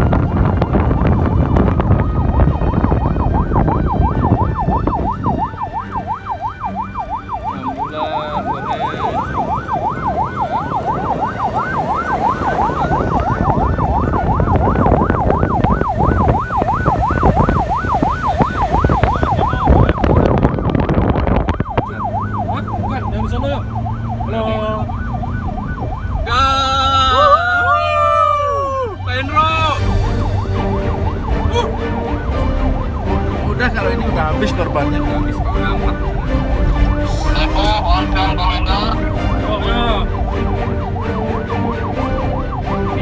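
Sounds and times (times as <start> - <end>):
emergency siren yelping: 0.0 - 43.0
low wind: 0.0 - 43.0
vehicle rumble: 0.0 - 43.0.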